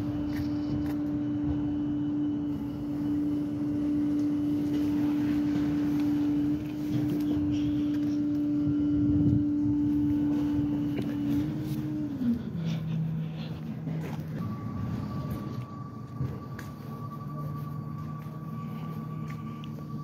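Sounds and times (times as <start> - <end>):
garbage truck engine droning: 0.0 - 20.0.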